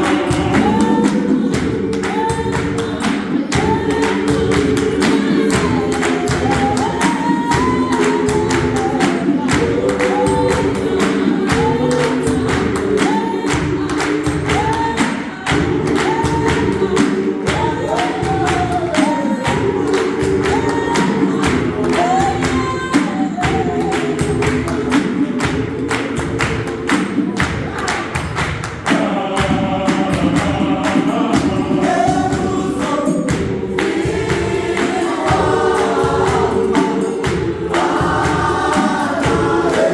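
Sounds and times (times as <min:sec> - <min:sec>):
gospel choir singing: 0:00.0 - 0:39.9
steady percussive beat: 0:00.0 - 0:39.9.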